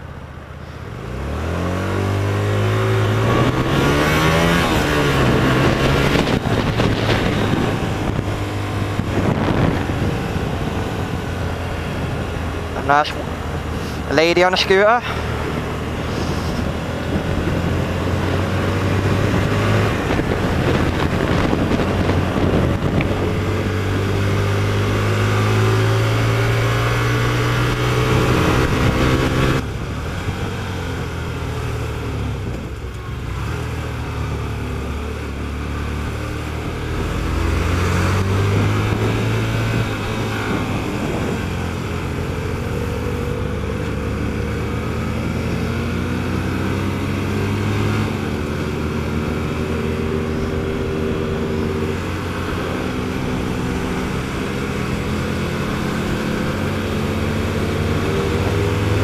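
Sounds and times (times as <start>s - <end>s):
motorcycle engine revving: 0.0s - 59.0s
road and wind rush: 0.0s - 59.0s.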